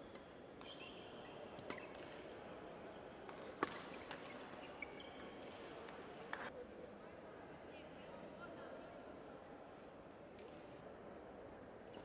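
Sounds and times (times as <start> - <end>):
faint hall background noise: 0.0 - 12.0.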